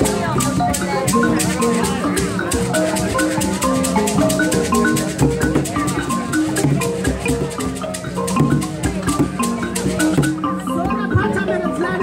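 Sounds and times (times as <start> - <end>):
plucked mbira notes: 0.0 - 12.0
shakers beat: 0.0 - 12.0.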